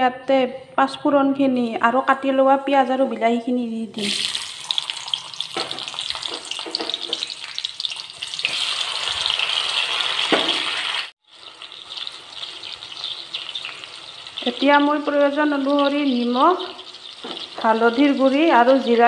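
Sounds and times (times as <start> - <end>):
onion and tomato frying in oil: 1.6 - 19.0.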